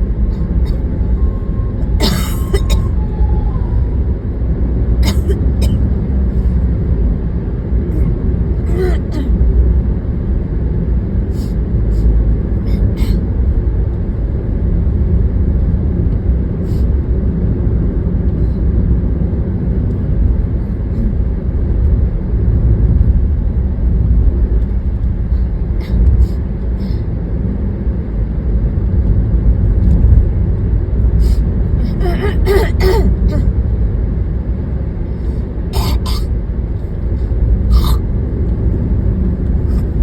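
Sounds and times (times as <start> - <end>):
car cabin road rumble: 0.0 - 40.0.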